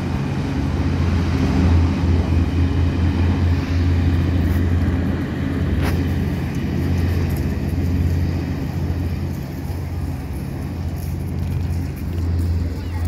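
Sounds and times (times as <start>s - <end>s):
hovercraft engines droning: 0.0s - 13.0s.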